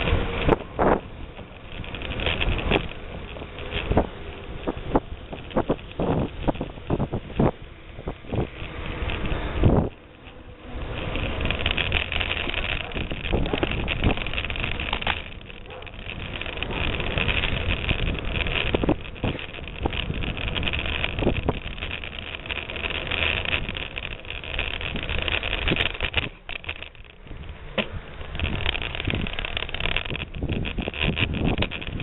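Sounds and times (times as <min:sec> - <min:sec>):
bicycle knocks and rattles: 0:00.0 - 0:32.0
bicycle tyres rumbling on dirt: 0:00.0 - 0:32.0
wind rushing over microphone: 0:00.0 - 0:32.0.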